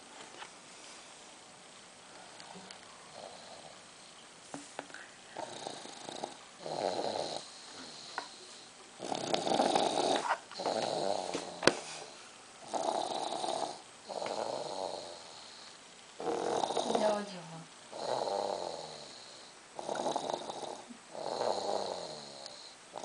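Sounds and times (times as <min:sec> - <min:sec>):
person snoring: 0:02.3 - 0:03.8, 0:05.3 - 0:17.2, 0:17.9 - 0:23.0.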